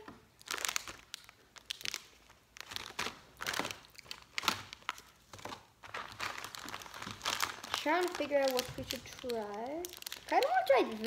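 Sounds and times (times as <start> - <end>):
plastic wrappers crinkling: 0.0 - 11.0.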